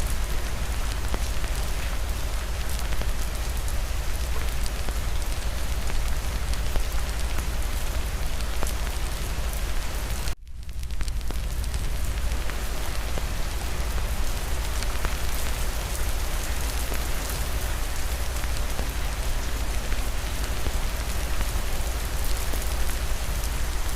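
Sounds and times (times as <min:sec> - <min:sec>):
constant low rumble: 0:00.0 - 0:23.9
steady rain falling: 0:00.0 - 0:23.9
wood fire crackling: 0:00.0 - 0:23.9.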